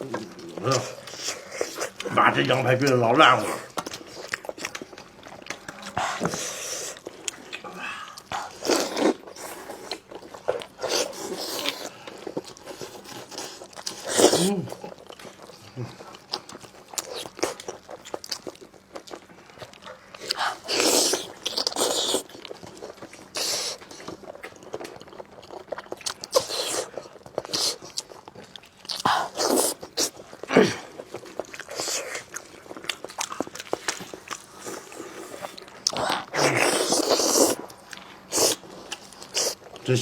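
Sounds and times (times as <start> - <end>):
chewing meat off bone: 0.0 - 40.0.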